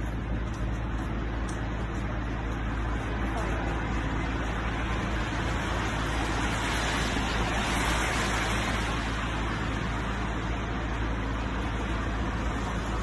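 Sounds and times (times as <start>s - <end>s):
street traffic: 0.0s - 13.0s
vehicle passing on wet road: 2.3s - 13.0s.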